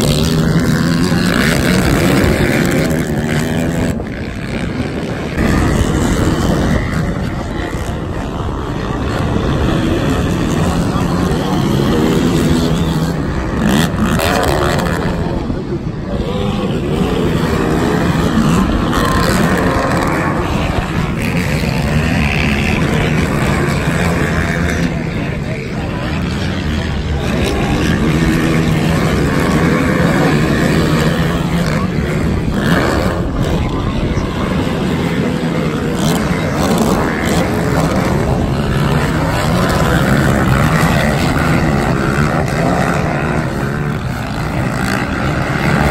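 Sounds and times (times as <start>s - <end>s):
quad engines revving: 0.0s - 45.9s.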